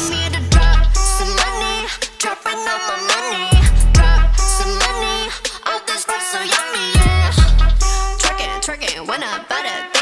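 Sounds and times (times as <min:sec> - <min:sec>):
hip hop backing track: 0:00.0 - 0:10.0
person rapping or singing: 0:00.0 - 0:10.0.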